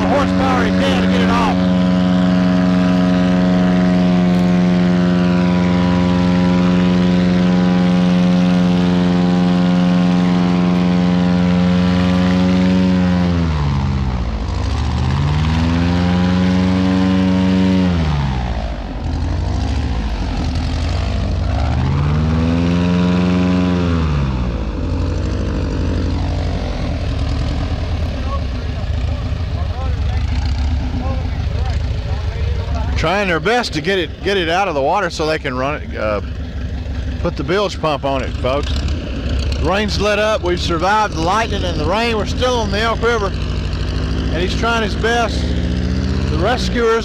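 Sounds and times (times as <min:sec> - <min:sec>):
airboat engine and propeller drone: 0:00.0 - 0:47.0.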